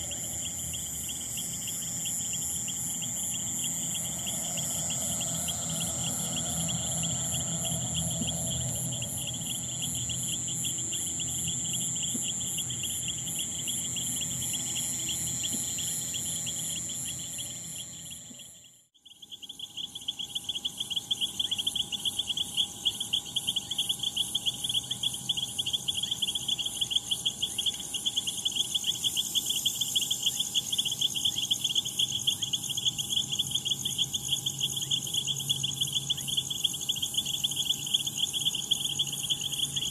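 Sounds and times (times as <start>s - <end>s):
crickets chirping: 0.0s - 39.9s
higher insect trill: 0.0s - 39.9s.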